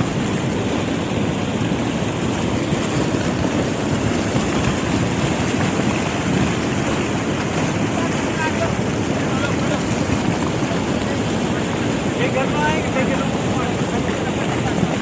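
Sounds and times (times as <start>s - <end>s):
mudflow rushing over boulders: 0.0s - 15.0s.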